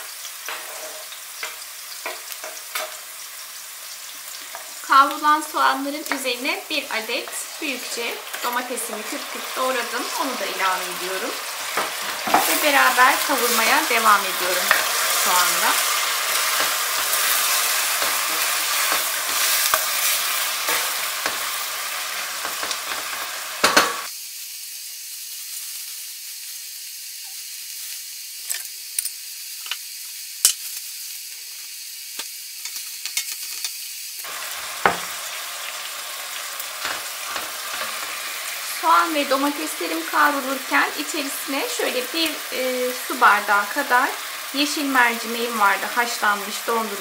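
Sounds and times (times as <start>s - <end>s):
onions sizzling in oil: 0.0s - 47.0s.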